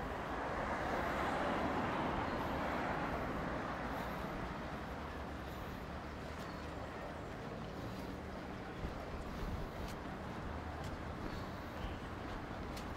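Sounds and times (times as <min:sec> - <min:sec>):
road vehicle passing: 0:00.0 - 0:12.9.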